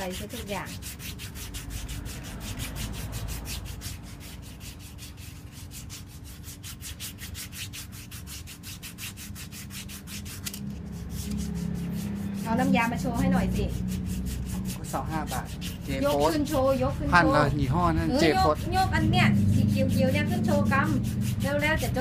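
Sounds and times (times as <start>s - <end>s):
scrubbing block rasping skin: 0.0s - 22.0s.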